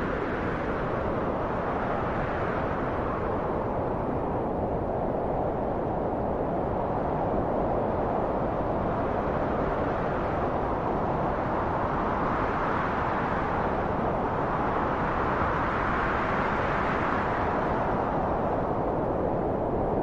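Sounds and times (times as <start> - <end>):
rushing wind: 0.0 - 20.0.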